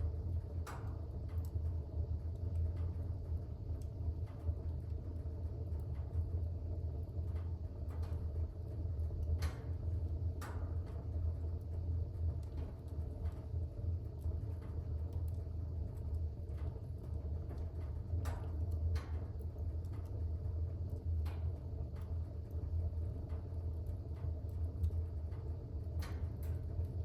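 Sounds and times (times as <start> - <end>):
fire crackling and popping: 0.0 - 27.0
fire rumbling in fireplace: 0.0 - 27.0.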